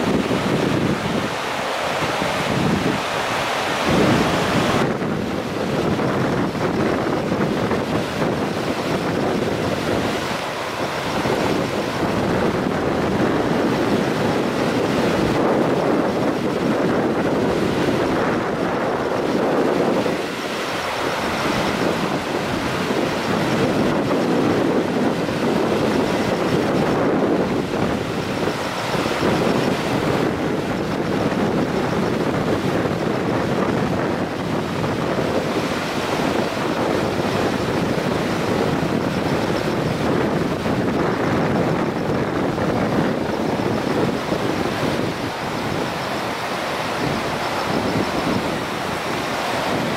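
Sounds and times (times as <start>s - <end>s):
river rushing in flood: 0.0s - 49.9s
wind buffeting microphone: 0.0s - 49.9s.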